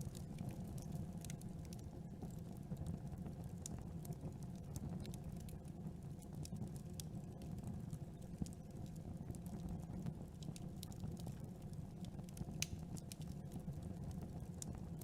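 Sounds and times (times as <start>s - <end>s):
low rumble of flame: 0.0s - 15.0s
wood crackling and popping: 0.0s - 15.0s.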